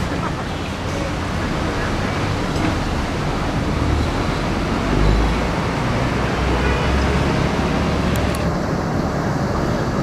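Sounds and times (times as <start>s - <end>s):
bus engines rumbling: 0.0s - 10.0s
traffic noise: 0.0s - 10.0s.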